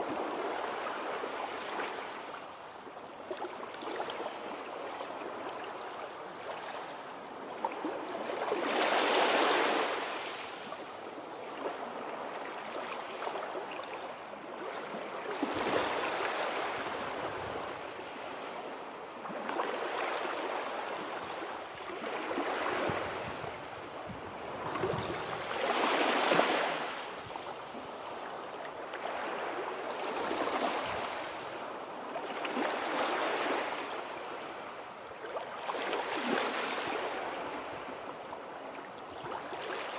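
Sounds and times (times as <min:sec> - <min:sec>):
sea waves breaking on shore: 0:03.2 - 0:39.9.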